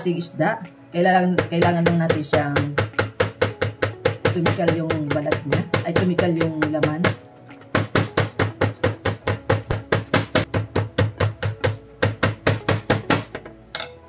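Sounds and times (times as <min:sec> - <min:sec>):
mallet pounding fish on board: 0:01.4 - 0:13.4.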